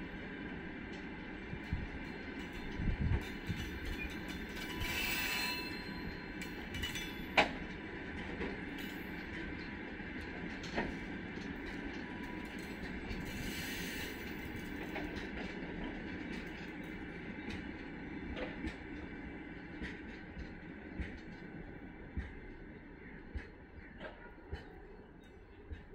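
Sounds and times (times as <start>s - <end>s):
train wheels rumbling: 0.0s - 25.9s.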